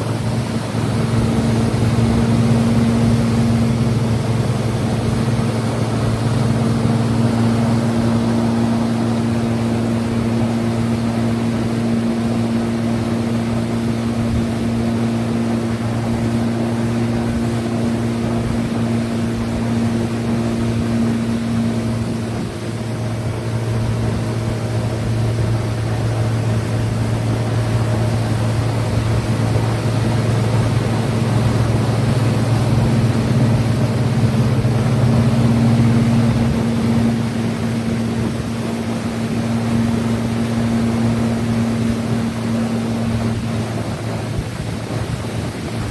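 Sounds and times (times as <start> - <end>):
watercraft engine running: 0.0 - 45.9
wind and water rushing: 0.0 - 45.9.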